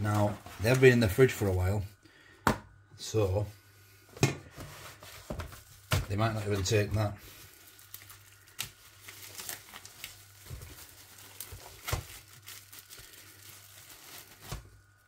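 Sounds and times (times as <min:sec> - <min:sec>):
plastic wrap crinkling: 0:00.0 - 0:01.9, 0:04.7 - 0:15.0.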